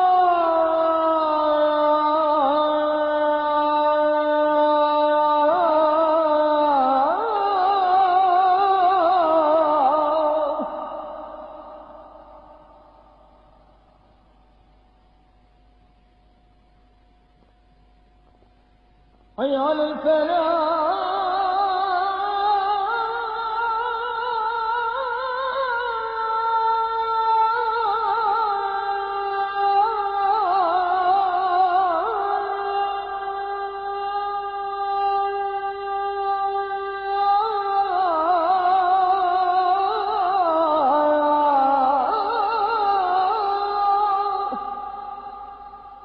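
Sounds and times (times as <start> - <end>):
man chanting unaccompanied: 0.0 - 12.6, 19.4 - 46.0.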